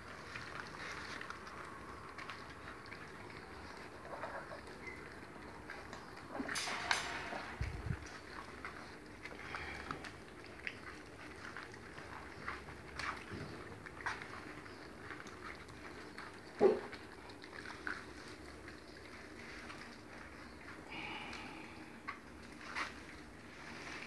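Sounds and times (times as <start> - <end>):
puppies licking and chewing: 0.0 - 24.0.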